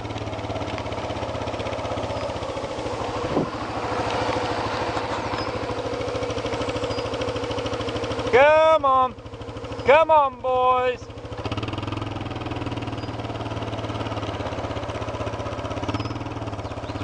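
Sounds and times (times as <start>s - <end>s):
engine running at low speed: 0.0s - 17.0s.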